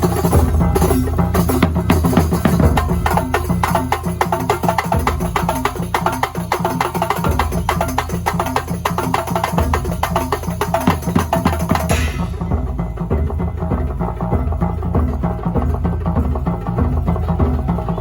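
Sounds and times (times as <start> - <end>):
fast percussion ensemble music: 0.0 - 18.0
steady deep drum: 0.0 - 18.0.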